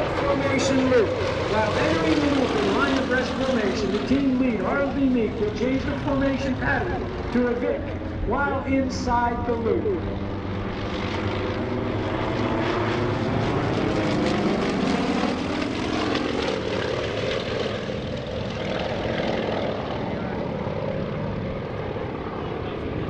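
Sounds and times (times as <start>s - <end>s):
propeller planes droning overhead: 0.0s - 23.0s.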